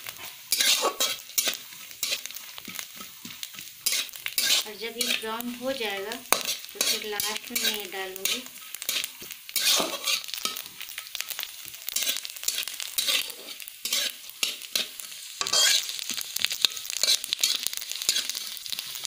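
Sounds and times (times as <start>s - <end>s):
food sizzling in oil: 0.0s - 19.0s
spoon scraping a pan: 0.0s - 19.0s.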